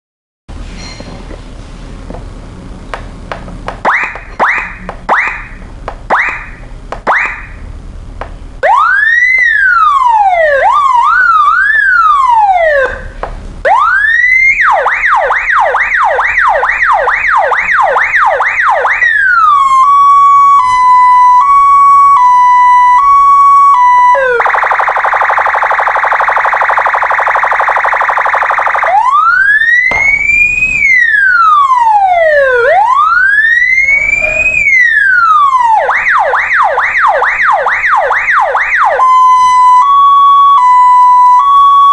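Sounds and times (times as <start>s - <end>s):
electronic motorcycle siren: 3.9s - 7.6s, 8.6s - 41.9s.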